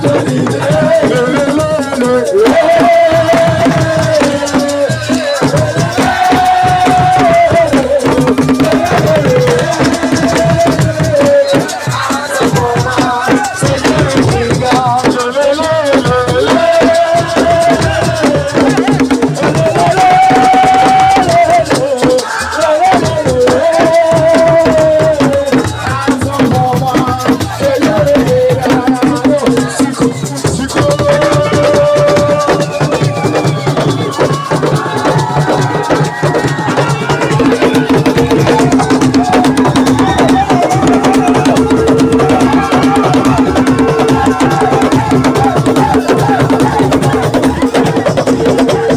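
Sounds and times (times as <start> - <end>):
clacking percussion: 0.0 - 48.9
drums: 0.0 - 48.9.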